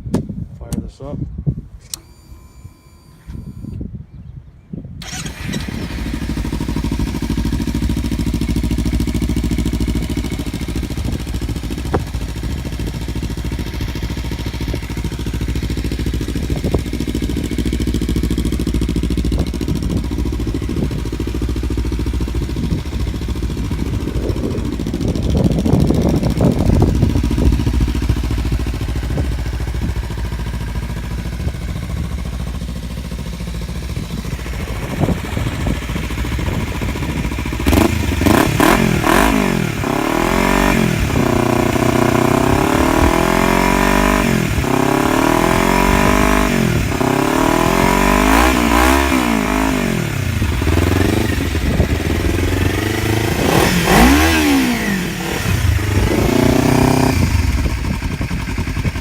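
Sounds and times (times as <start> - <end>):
motorcycle engine idling and revving: 5.0 - 59.0.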